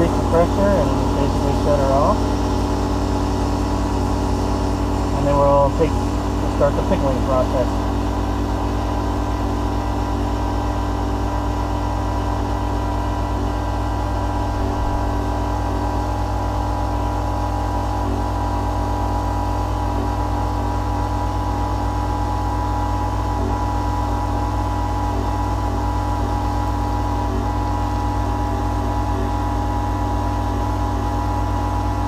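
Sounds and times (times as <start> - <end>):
motor and pump humming: 0.0 - 32.0.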